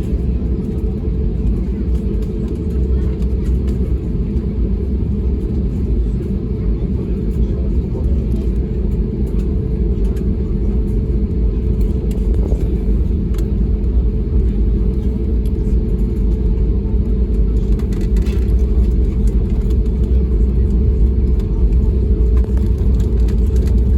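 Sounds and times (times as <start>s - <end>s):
aircraft taxiing rumble: 0.0s - 23.9s.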